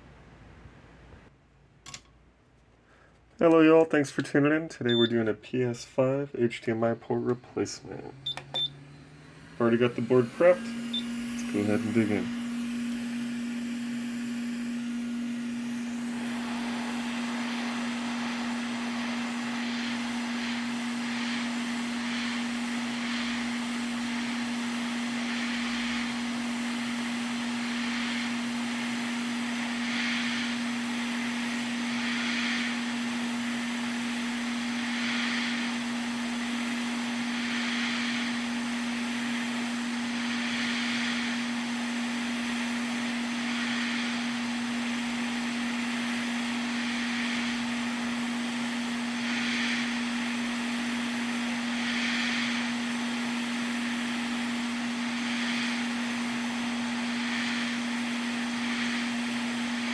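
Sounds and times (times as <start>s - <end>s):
electric blower whirring: 7.5s - 59.9s
air hissing: 9.6s - 59.9s.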